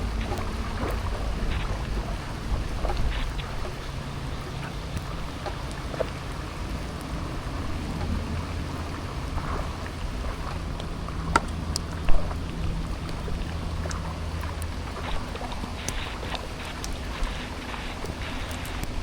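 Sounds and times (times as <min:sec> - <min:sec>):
low steady rumble: 0:00.0 - 0:19.0
raindrops ticking close by: 0:00.0 - 0:19.0
steady rain falling: 0:00.0 - 0:19.0.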